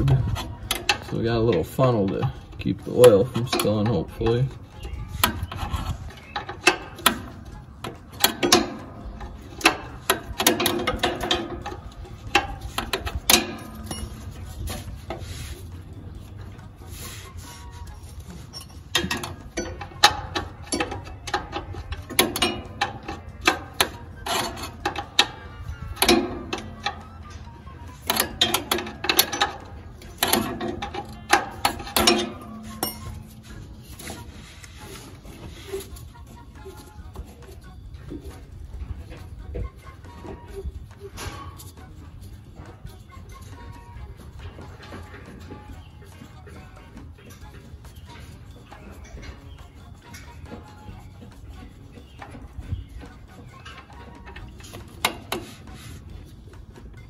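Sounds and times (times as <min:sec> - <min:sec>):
metal tools clinking: 0:00.0 - 0:16.6, 0:17.7 - 0:39.2, 0:39.8 - 0:57.0.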